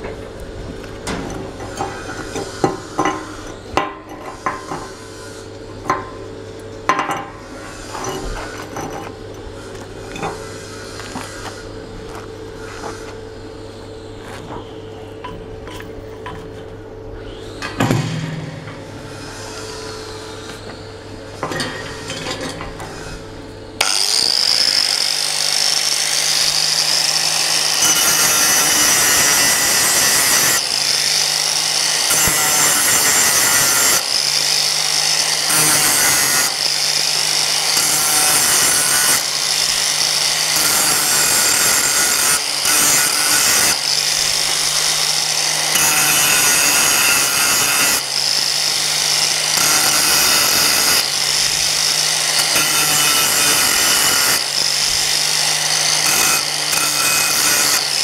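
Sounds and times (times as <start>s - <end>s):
angle grinder whining: 0.0s - 58.0s
grinder rasping on steel: 0.8s - 16.7s, 18.5s - 58.0s.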